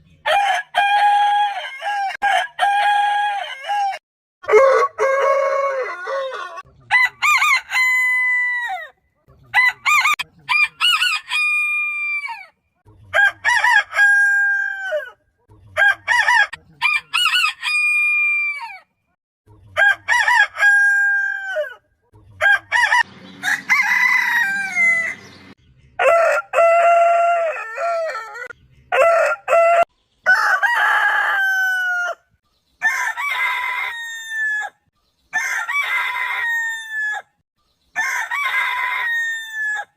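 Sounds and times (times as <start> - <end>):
roosters crowing: 0.2 - 9.0, 9.6 - 12.5, 13.1 - 15.2, 15.8 - 18.8, 19.7 - 21.8, 22.4 - 39.9.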